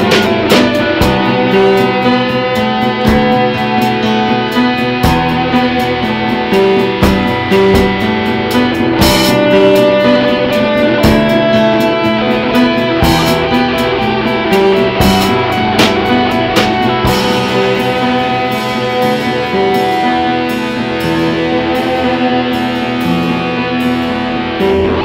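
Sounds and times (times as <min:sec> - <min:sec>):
drum-kit beat: 0:00.0 - 0:25.0
guitar: 0:00.0 - 0:25.0
piano: 0:00.0 - 0:25.0.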